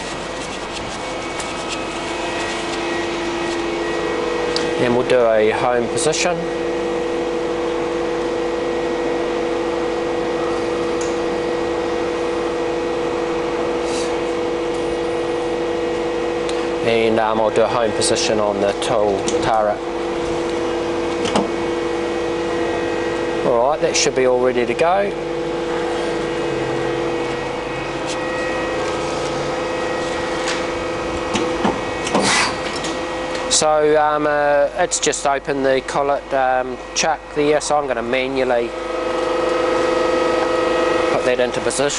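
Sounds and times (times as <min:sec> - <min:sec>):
machine two-tone hum: 0:00.0 - 0:41.9.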